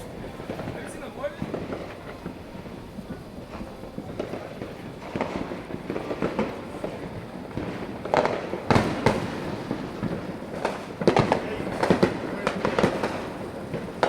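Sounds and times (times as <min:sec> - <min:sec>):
fireworks bangs and pops: 0:00.0 - 0:14.0
fireworks crackling: 0:00.0 - 0:14.0.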